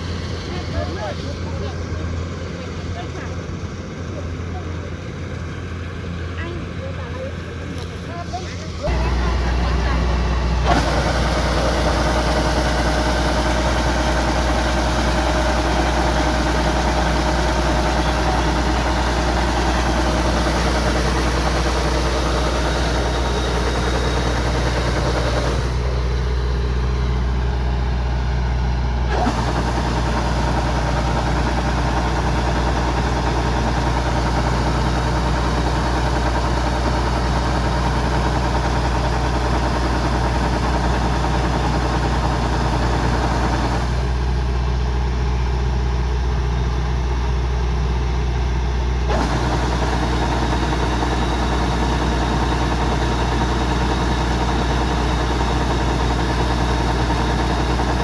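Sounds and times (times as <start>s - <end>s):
combine harvester diesel engine: 0.0s - 58.0s.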